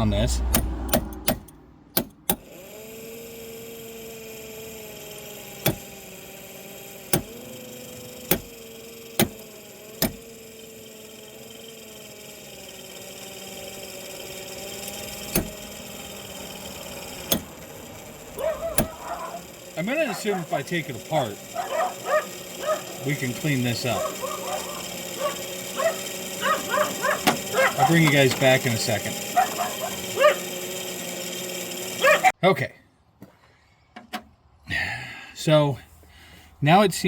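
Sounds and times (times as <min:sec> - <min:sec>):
blows striking blower housing: 0:00.0 - 0:32.3
heater blower motor humming: 0:00.0 - 0:32.4.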